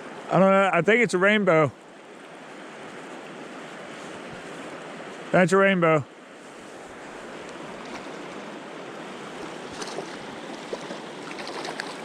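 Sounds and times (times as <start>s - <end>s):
river rushing water: 0.0s - 12.0s.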